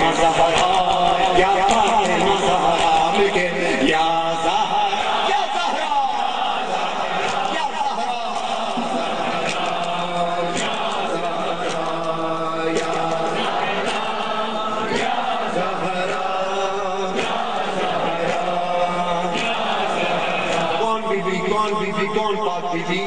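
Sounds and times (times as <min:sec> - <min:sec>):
many voices chanting a lament: 0:00.0 - 0:23.0.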